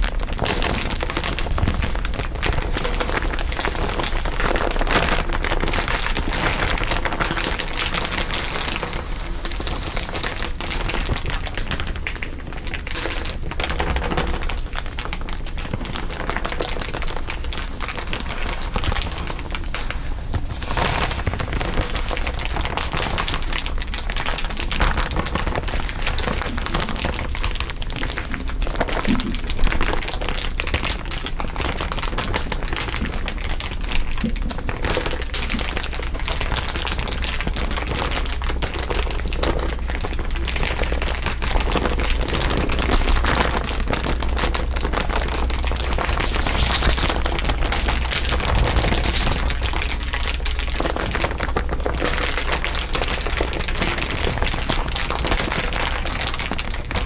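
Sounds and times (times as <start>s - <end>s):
dense crinkling: 0.0s - 57.0s.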